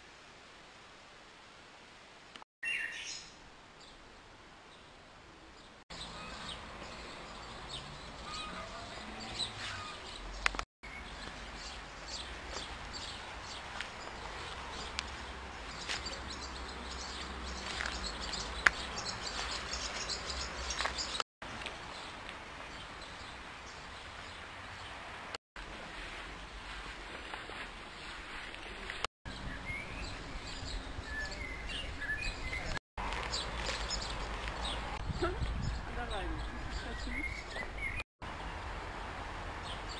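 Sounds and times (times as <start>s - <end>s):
small birds chirping: 4.7s - 25.0s, 26.2s - 38.0s.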